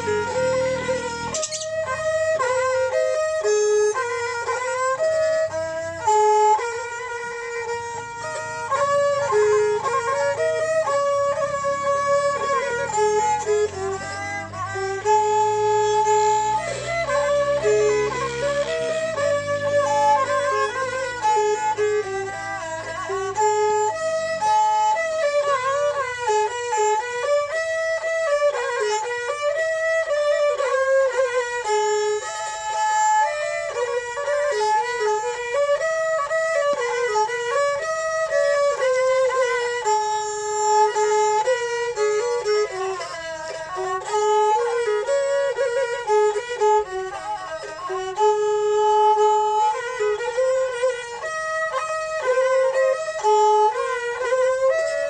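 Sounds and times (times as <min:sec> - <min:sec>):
bowed fiddles playing folk melody: 0:00.0 - 0:55.0.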